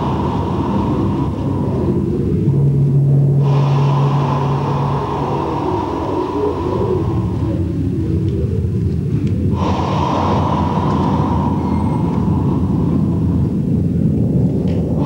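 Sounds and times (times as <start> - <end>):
bright hissy noise: 0.0 - 8.2, 9.5 - 13.8
low rumbling noise: 0.0 - 15.0.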